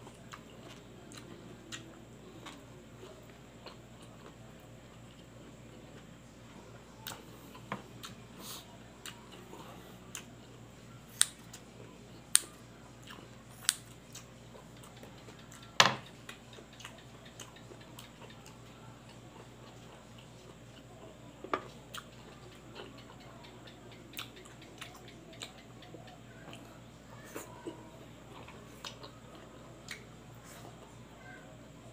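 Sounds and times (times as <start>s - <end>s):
quiet chewing: 0.0s - 31.4s.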